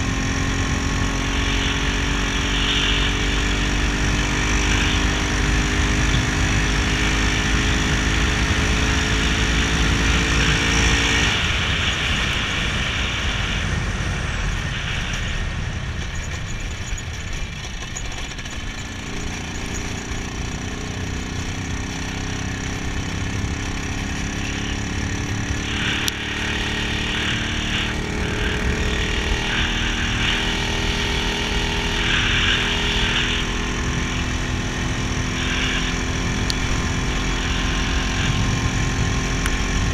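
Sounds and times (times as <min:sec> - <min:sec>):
two-stroke motorcycle engine running: 0:00.0 - 0:39.9
wind noise: 0:00.0 - 0:39.9.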